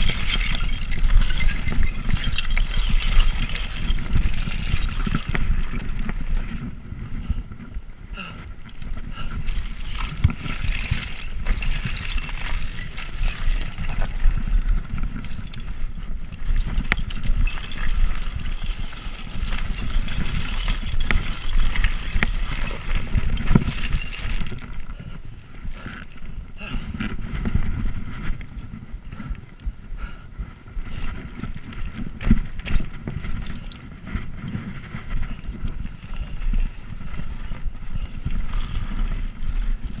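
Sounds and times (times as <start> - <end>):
bicycle tyre road noise: 0.0 - 40.0
wind buffeting microphone: 0.0 - 40.0.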